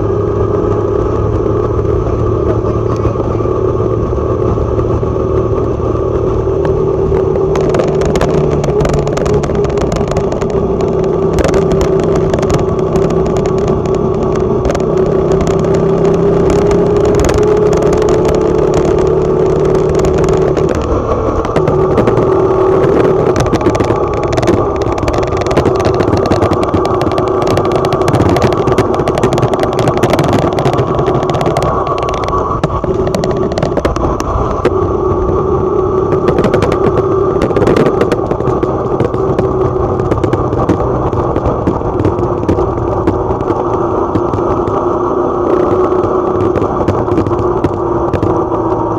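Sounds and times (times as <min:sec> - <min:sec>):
small motorcycle engine running: 0:00.0 - 0:48.9.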